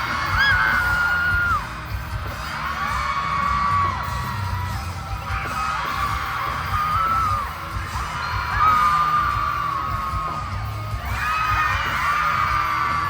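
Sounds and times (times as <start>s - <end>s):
crowd screaming: 0.0s - 13.0s
live pop concert music: 0.0s - 13.0s.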